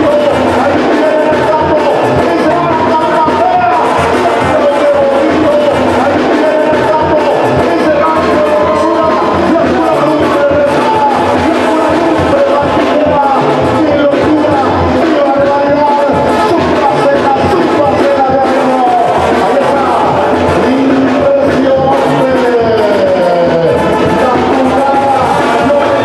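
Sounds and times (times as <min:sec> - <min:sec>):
loud melodic music: 0:00.0 - 0:26.0.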